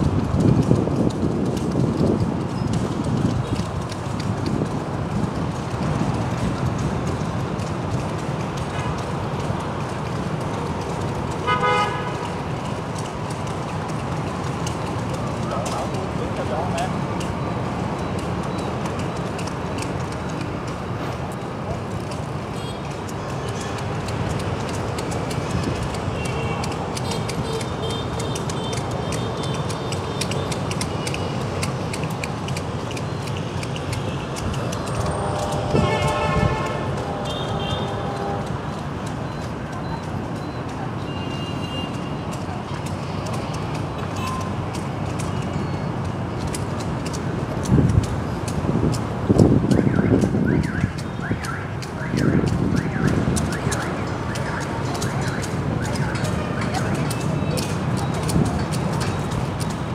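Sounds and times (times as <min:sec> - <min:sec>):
wind buffeting microphone: 0:00.0 - 0:41.0, 0:42.2 - 0:59.9
city street traffic: 0:00.0 - 0:59.9
light ticks: 0:00.0 - 0:59.9.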